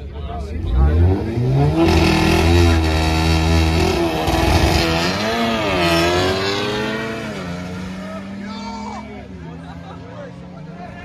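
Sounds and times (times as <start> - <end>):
drag car engines revving: 0.0 - 11.0.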